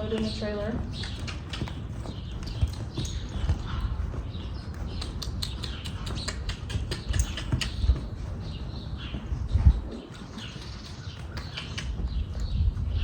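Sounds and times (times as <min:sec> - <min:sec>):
horse hooves on ground: 0:00.0 - 0:13.0
wind rumbling on microphone: 0:00.0 - 0:13.0.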